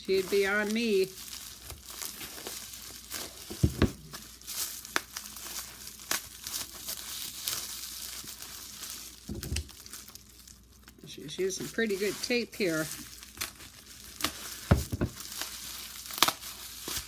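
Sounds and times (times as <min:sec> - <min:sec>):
packing tape crinkling and tearing: 0:00.0 - 0:17.0.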